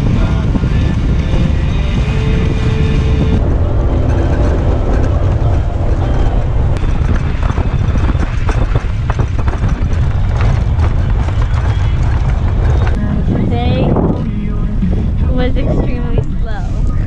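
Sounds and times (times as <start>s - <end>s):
boat engine and hull rumble: 0.0s - 17.0s
hull thumps and buffeting: 0.0s - 17.0s
wind on microphone: 0.0s - 17.0s.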